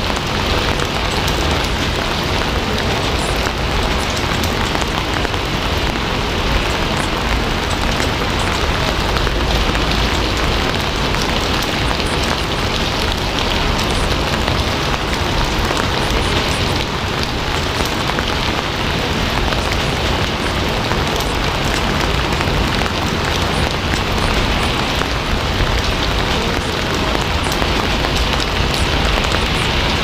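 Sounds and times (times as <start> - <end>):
scattered raindrops: 0.0 - 30.0
steady rain hissing: 0.0 - 30.0.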